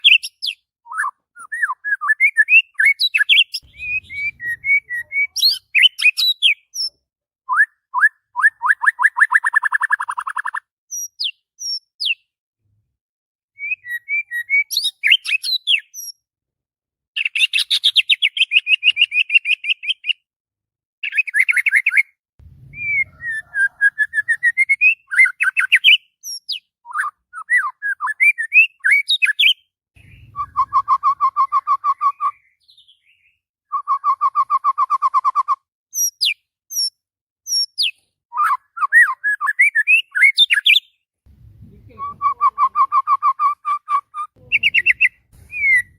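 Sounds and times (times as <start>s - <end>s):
bird singing trills and whistles: 0.0s - 12.3s, 13.6s - 16.2s, 17.2s - 20.2s, 21.0s - 41.0s, 41.8s - 45.9s.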